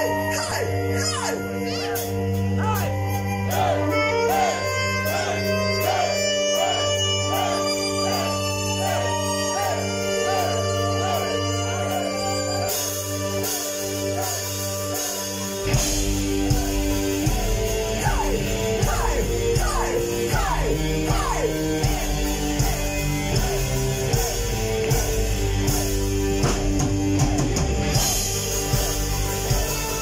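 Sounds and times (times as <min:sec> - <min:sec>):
bass guitar: 0:00.0 - 0:30.0
drums: 0:00.0 - 0:30.0
electric guitars: 0:00.0 - 0:30.0
electric violin lead: 0:01.4 - 0:30.0.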